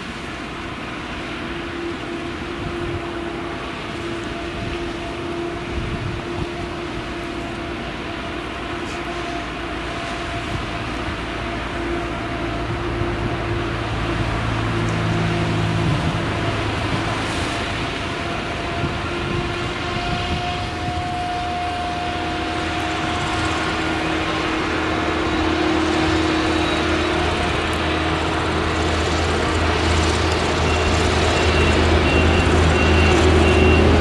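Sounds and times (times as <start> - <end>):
forage harvester engine droning: 0.0 - 34.0.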